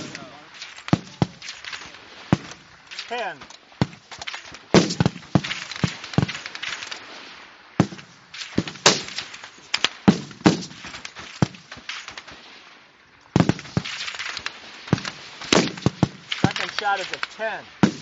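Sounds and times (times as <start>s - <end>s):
rifle shots cracking: 0.0s - 7.2s, 7.8s - 12.5s, 13.4s - 18.0s.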